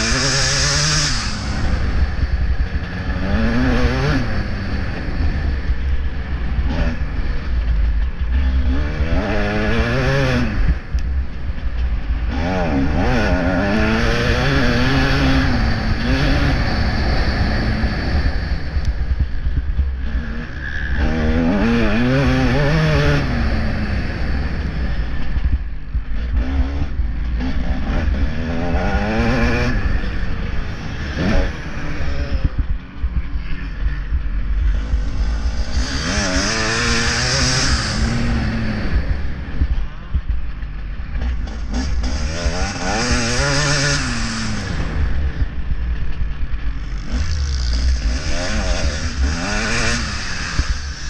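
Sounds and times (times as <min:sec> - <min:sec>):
motocross bike engine revving: 0:00.0 - 0:51.0
wind rumble on microphone: 0:00.0 - 0:51.0.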